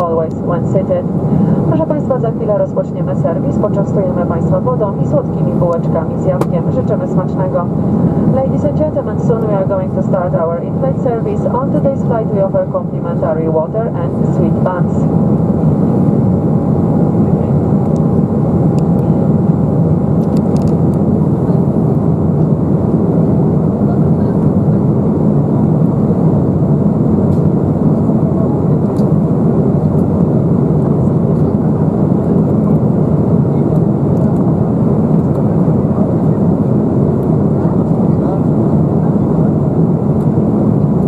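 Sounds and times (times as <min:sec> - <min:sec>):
airflow rushing over fuselage: 0:00.0 - 0:41.0
jet engines droning: 0:00.0 - 0:41.0.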